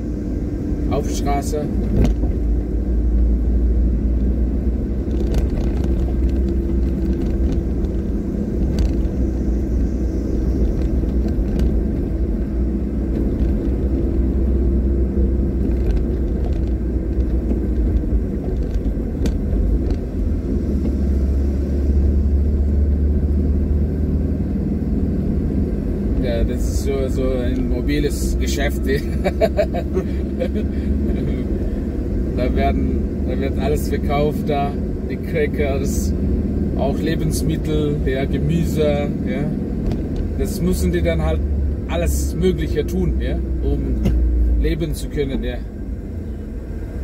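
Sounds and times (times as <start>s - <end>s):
car engine and road rumble: 0.0s - 47.0s.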